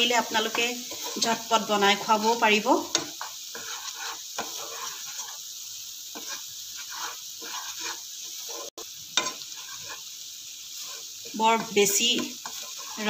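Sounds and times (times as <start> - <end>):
wooden spatula scraping a pan: 0.0 - 5.5, 6.1 - 13.0
paste sizzling in a frying pan: 0.0 - 13.0.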